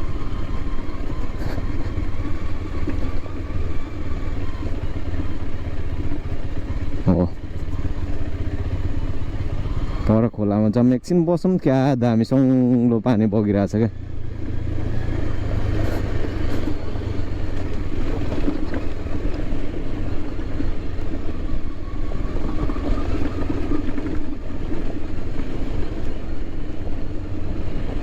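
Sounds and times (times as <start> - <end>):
motorcycle engine running: 0.0 - 11.5, 12.6 - 28.0.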